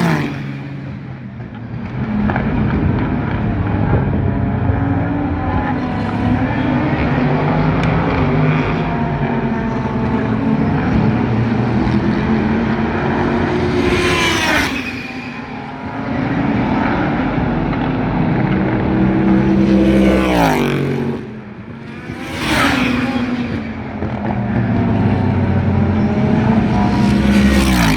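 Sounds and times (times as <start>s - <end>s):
distant race cars on circuit: 0.0s - 27.9s
race cars passing by: 0.0s - 27.9s.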